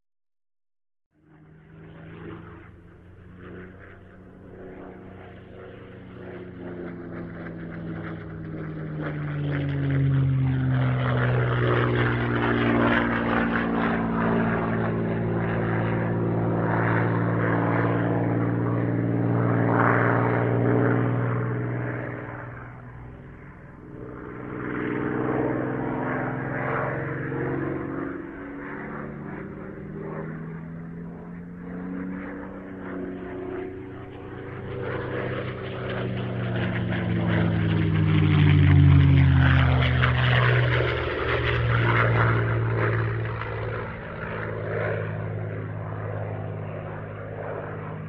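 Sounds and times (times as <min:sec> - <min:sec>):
propeller aircraft flying past: 0:01.1 - 0:48.0.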